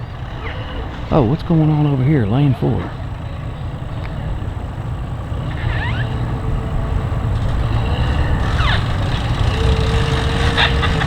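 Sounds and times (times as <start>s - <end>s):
boat hull squeaking on trailer: 0.0s - 11.0s
low engine rumble: 0.0s - 11.0s.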